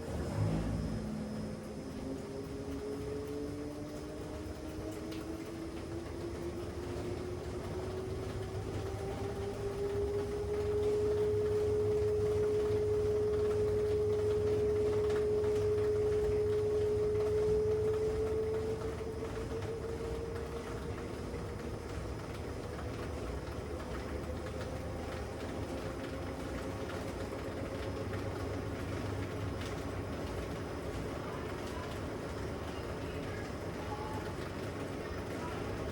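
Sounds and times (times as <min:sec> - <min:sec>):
washing machine motor whine: 0:00.0 - 0:35.9.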